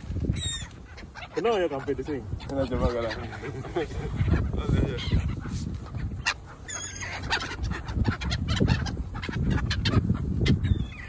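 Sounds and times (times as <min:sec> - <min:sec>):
gulls calling: 0:00.0 - 0:11.0
wind rumble on microphone: 0:00.0 - 0:11.0.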